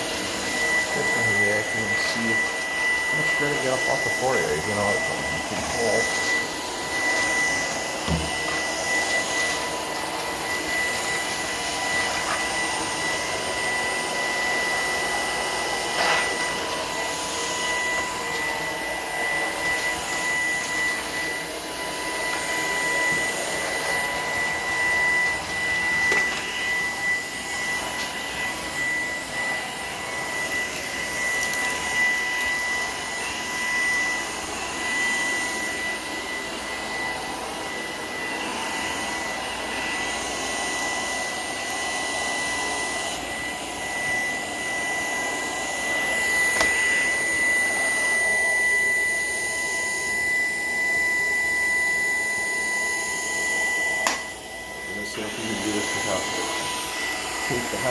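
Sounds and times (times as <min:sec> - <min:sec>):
stick vacuum running: 0:00.0 - 0:57.9.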